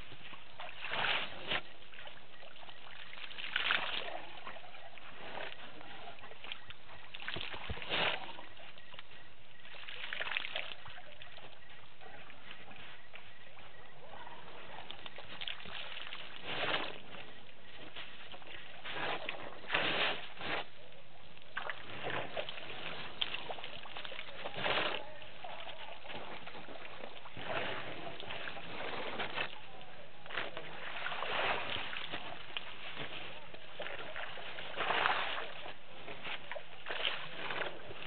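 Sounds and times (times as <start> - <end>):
elephants splashing water: 0.0 - 38.0.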